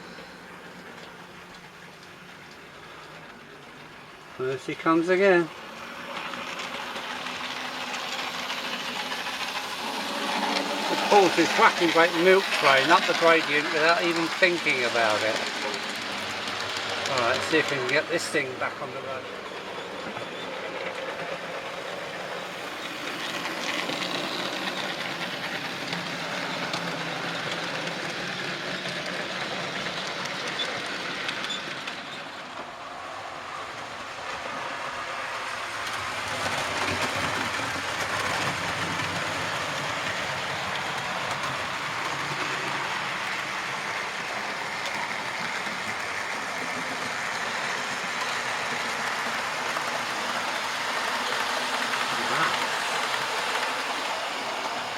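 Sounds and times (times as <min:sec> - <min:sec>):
model train rattling along track: 0:00.0 - 0:54.9.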